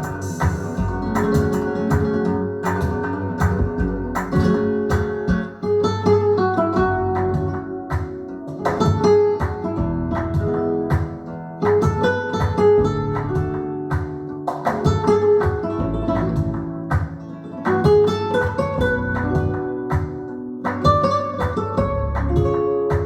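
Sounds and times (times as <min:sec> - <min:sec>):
flamenco guitar music over speakers: 0:00.0 - 0:23.0.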